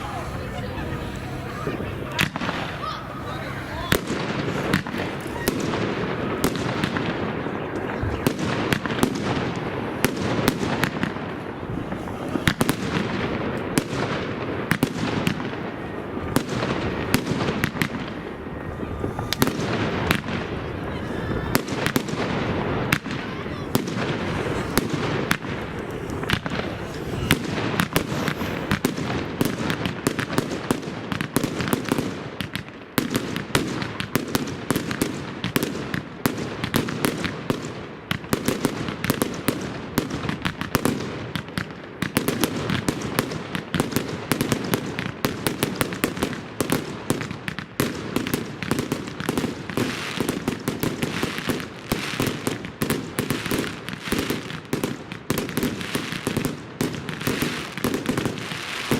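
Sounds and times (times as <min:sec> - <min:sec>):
fireworks and firecrackers banging: 0:00.0 - 0:58.9.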